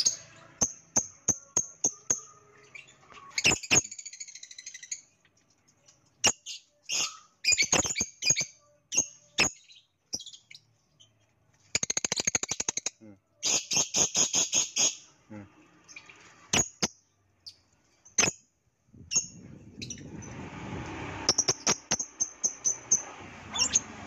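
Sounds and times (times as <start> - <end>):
lovebird chirping: 0.0 - 15.1, 15.8 - 20.4, 21.2 - 24.0.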